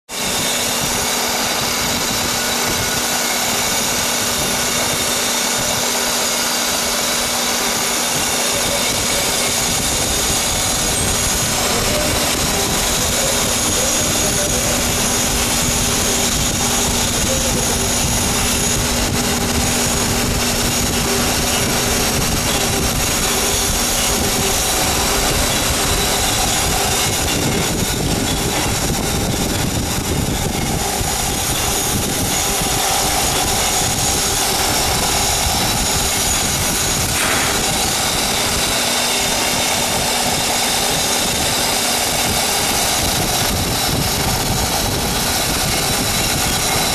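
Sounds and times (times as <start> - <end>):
coolant flowing: 0.1 - 46.9
grinding spindle whine and hiss: 0.1 - 46.9
motor hum: 0.1 - 46.9.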